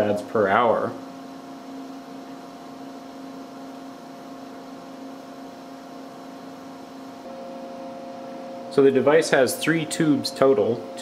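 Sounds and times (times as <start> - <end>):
electrical hum with faint hiss: 0.0 - 11.0.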